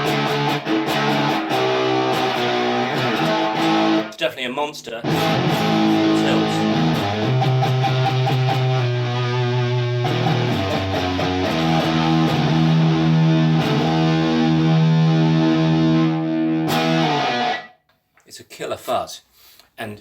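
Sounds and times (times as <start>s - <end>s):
fuzzed electric guitar chords: 0.0s - 4.2s, 5.0s - 17.8s.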